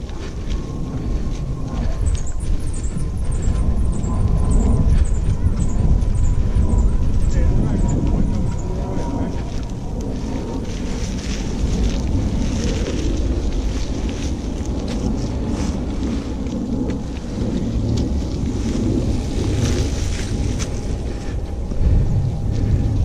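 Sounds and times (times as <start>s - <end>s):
tyres rolling on dirt and leaves: 0.0s - 23.0s
wind rumbling on microphone: 0.0s - 23.0s.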